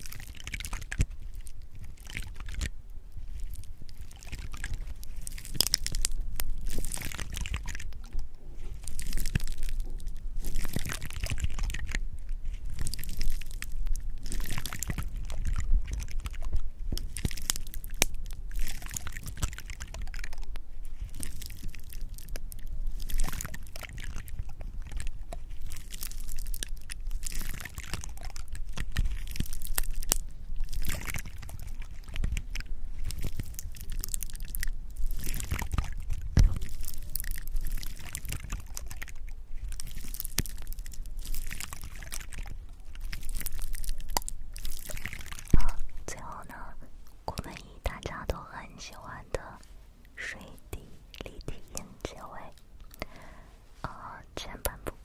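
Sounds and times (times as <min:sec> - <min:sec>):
wet clicks and crackles: 0:00.0 - 0:55.0.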